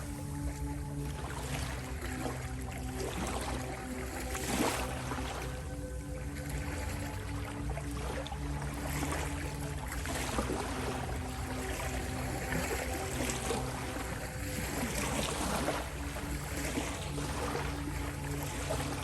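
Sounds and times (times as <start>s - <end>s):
ambient drone music: 0.0s - 19.0s
ocean waves splashing: 0.0s - 19.0s.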